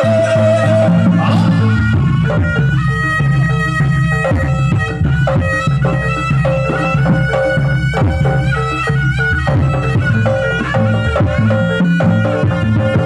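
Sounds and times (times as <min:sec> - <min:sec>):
drum strokes: 0:00.0 - 0:13.0
pitched melody line: 0:00.0 - 0:13.0.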